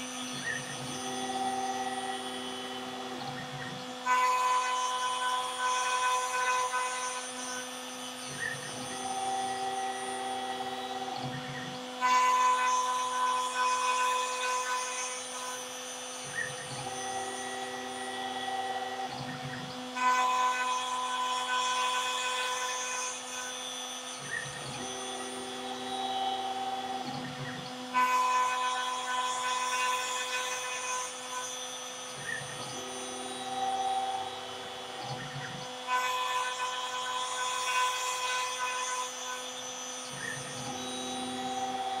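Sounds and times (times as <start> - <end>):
router motor whining: 0.0 - 42.0.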